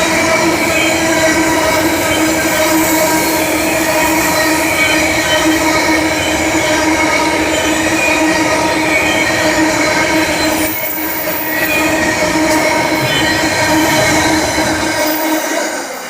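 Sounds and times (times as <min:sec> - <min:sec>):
train wheels running on track: 0:00.0 - 0:16.0
wheels squealing: 0:00.0 - 0:16.0.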